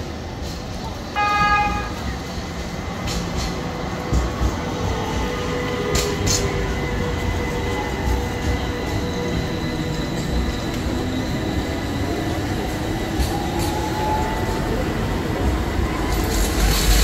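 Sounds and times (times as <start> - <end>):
tram rolling on rails: 0.0 - 17.0.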